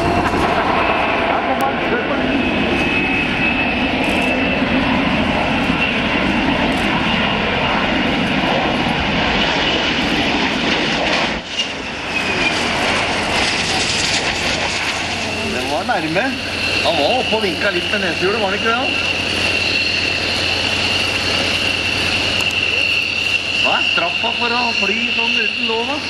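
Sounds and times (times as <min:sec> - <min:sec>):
high jet whine: 0:00.0 - 0:26.0
loud jet engine noise: 0:00.0 - 0:26.0.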